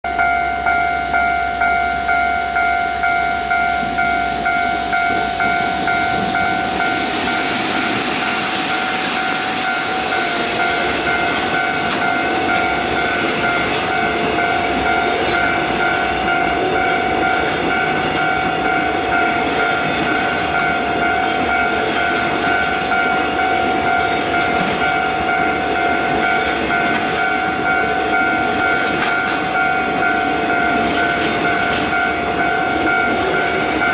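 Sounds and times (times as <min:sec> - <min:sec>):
freight train passing: 0:00.1 - 0:33.9
pulsing ringing warning tone: 0:00.1 - 0:33.9.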